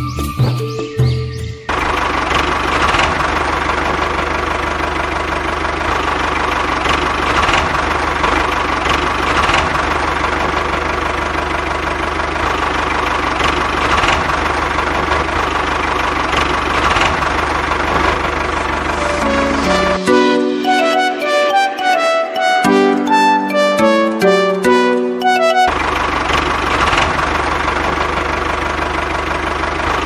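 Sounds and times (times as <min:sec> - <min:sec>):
diesel tractor engine idling: 0:00.0 - 0:30.0.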